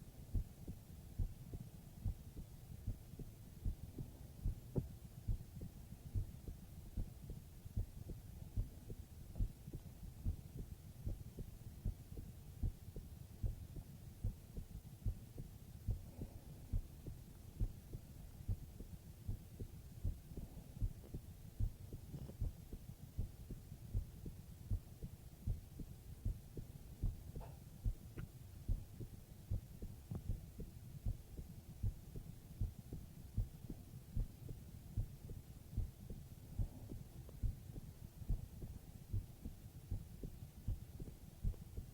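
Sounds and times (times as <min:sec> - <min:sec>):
heartbeat low thumps: 0:00.0 - 0:41.9.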